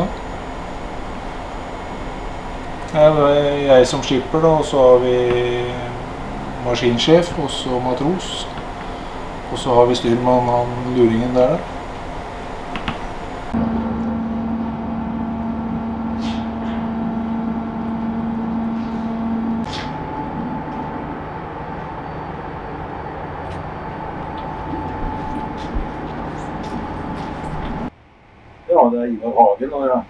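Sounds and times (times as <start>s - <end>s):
ferry engines droning: 0.0s - 28.5s.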